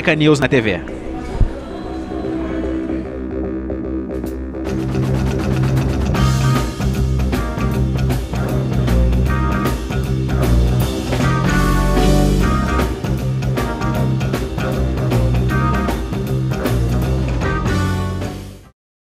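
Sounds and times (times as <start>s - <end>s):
rock music with electric guitar: 3.2s - 18.7s.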